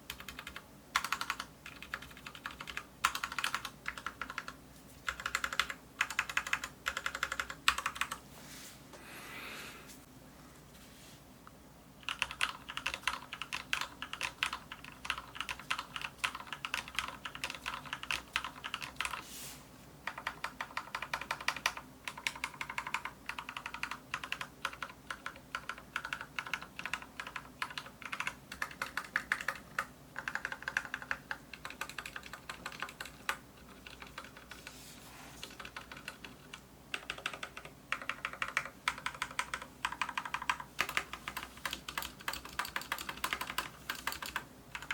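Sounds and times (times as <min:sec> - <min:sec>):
mechanical keyboard typing: 0:00.0 - 0:08.2, 0:12.0 - 0:19.2, 0:20.0 - 0:34.7, 0:35.4 - 0:44.9.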